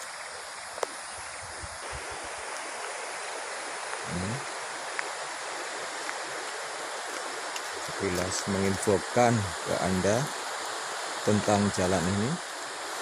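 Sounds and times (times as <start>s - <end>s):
rushing outdoor ambience: 0.0s - 13.0s.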